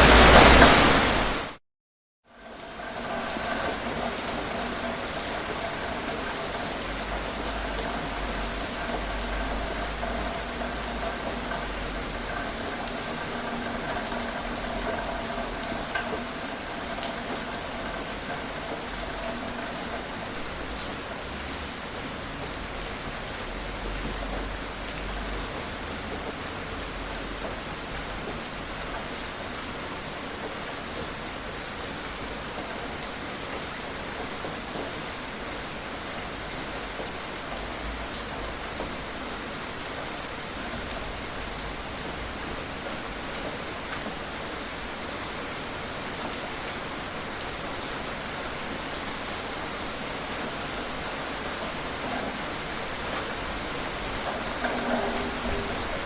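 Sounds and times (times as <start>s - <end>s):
gentle rain hiss: 0.0s - 1.6s, 2.3s - 56.0s
raindrops ticking: 2.4s - 56.0s.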